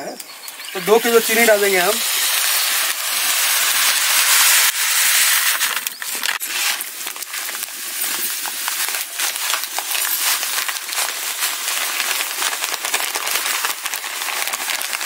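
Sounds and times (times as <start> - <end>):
scattered crackles: 0.0 - 15.0
sugar pouring into water: 0.3 - 15.0.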